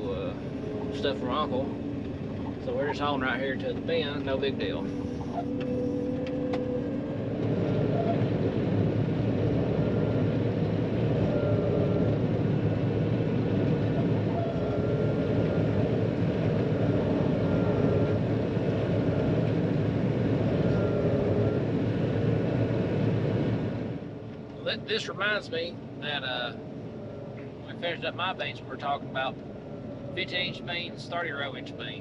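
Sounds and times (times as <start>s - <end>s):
combine harvester engine drone: 0.0s - 32.0s.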